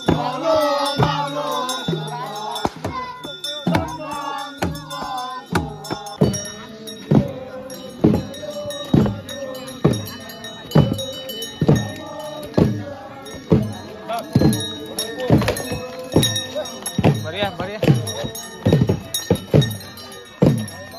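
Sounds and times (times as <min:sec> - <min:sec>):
drum beaten slowly: 0:00.0 - 0:20.9
voices chanting: 0:00.0 - 0:20.9.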